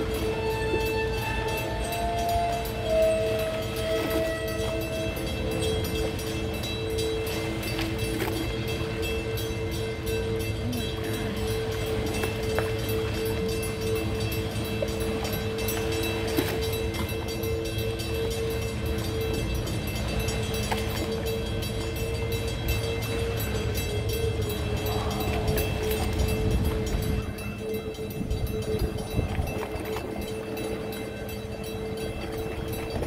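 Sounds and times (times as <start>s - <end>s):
drawbridge machinery hum: 0.0s - 33.0s.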